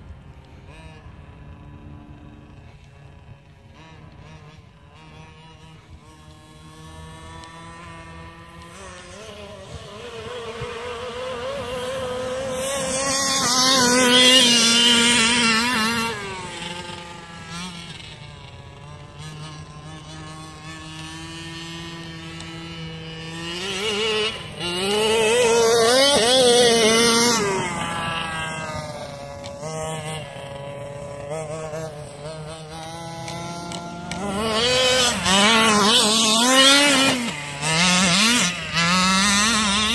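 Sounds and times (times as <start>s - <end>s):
rc truck engine revving: 0.0s - 39.9s.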